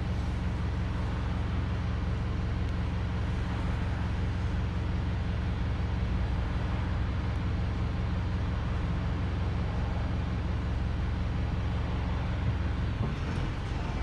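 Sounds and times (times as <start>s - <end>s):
bus diesel engine idling: 0.0s - 14.0s.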